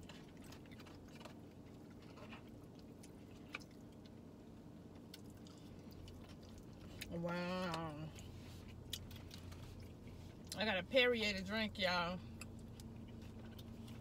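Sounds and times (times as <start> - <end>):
chewing and eating: 0.0 - 10.7, 12.2 - 14.0
low steady hum: 0.0 - 14.0.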